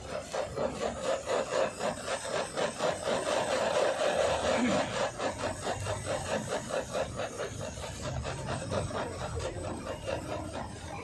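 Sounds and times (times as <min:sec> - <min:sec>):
utensil scraping food: 0:00.0 - 0:11.0.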